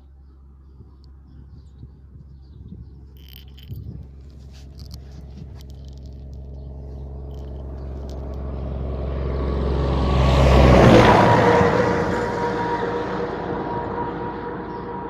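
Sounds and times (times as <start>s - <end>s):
vehicle engine approaching: 0.1s - 15.0s.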